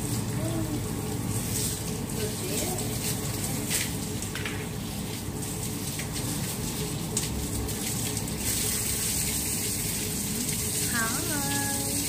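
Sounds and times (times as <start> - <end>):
water running from hose: 0.0 - 12.0.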